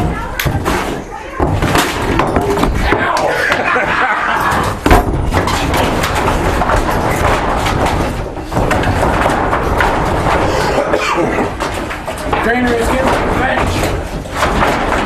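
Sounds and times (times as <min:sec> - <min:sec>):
heavy thud on wooden wall: 0:00.0 - 0:03.7, 0:04.6 - 0:15.0
knocks and clattering: 0:00.0 - 0:15.0.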